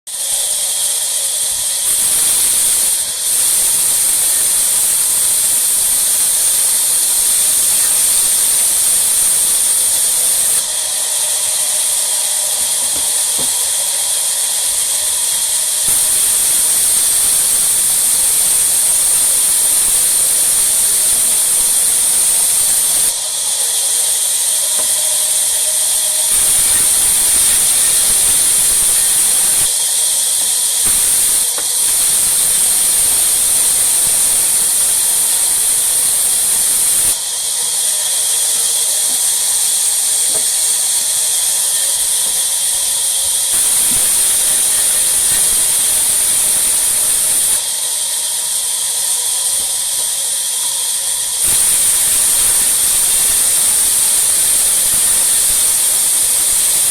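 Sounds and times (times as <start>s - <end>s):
sawmill machinery cutting wood: 0.1s - 56.9s.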